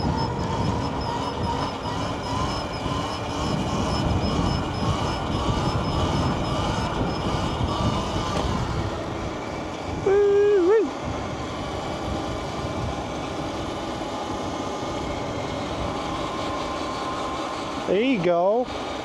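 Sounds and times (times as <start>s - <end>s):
wind rushing over microphone: 0.0s - 18.1s
electric motor whine: 0.0s - 19.0s.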